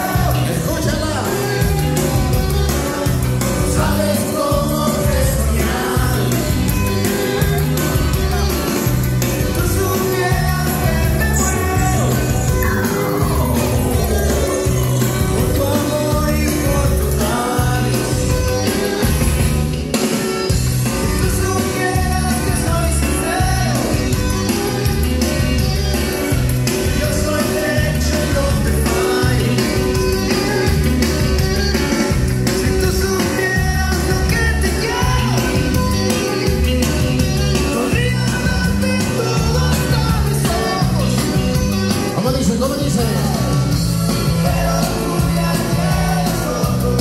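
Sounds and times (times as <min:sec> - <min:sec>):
loud dance music with singing: 0:00.0 - 0:47.0.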